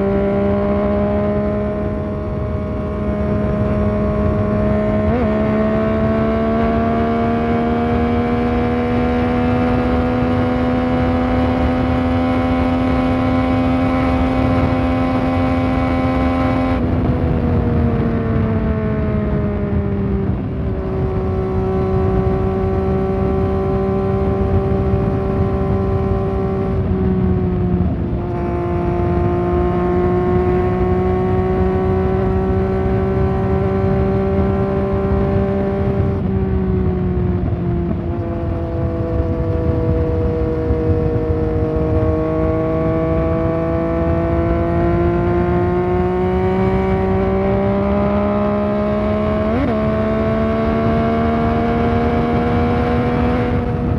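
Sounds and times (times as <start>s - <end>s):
motorcycle engine running: 0.0s - 53.9s
wind and road rumble: 0.0s - 53.9s.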